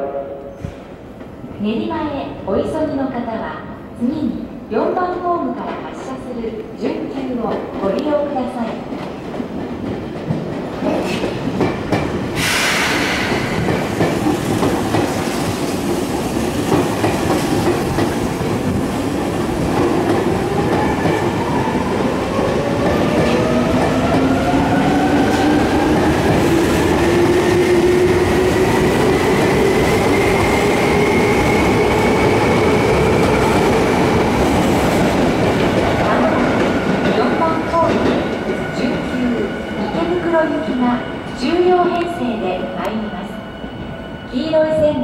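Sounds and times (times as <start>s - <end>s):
electric train passing slowly: 7.6s - 45.0s.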